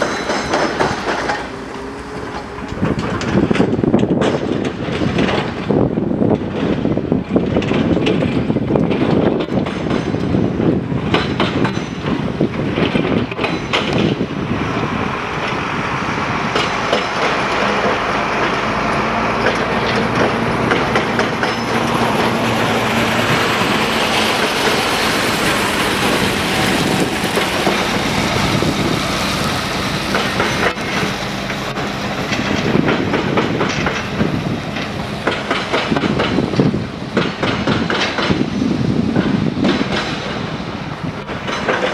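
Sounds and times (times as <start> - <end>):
engine hum: 0.0 - 9.1, 10.2 - 41.9
heavy vehicle rumble and rattle: 0.0 - 41.9.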